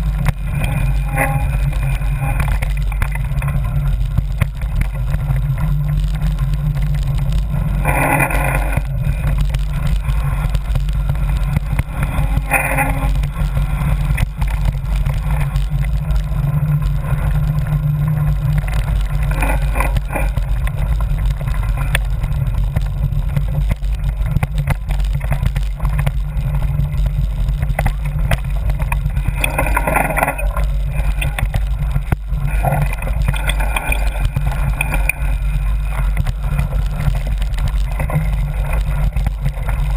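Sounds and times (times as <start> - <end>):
bike ride rumble: 0.0 - 39.9.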